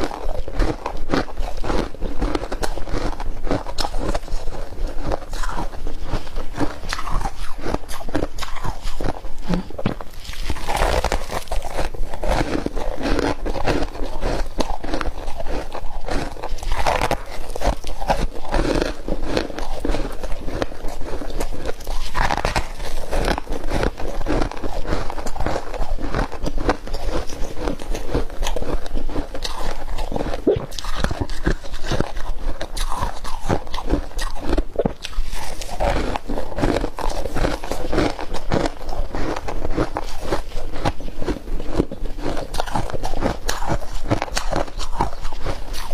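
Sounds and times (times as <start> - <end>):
ice crunching being chewed: 0.0 - 45.9.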